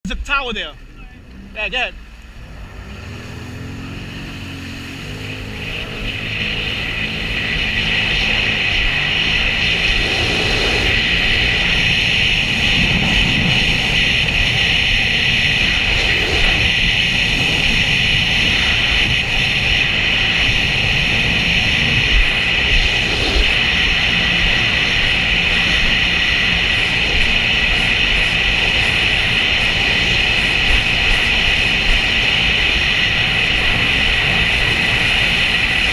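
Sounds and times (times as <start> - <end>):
jet ski engine running: 0.1 - 35.9.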